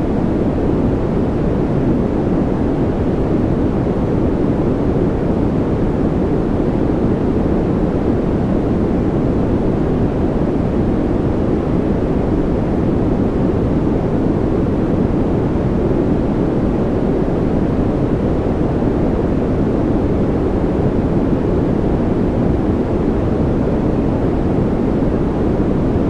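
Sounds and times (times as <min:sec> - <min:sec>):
deep muffled white noise hiss: 0:00.0 - 0:26.0.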